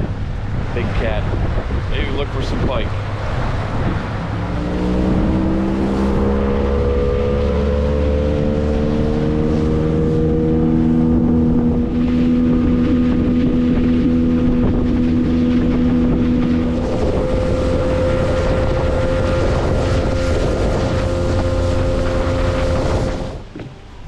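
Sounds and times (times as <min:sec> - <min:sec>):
boat motor running: 0:00.0 - 0:24.0
water rushing past hull: 0:00.0 - 0:24.0
wind buffeting microphone: 0:00.0 - 0:24.0.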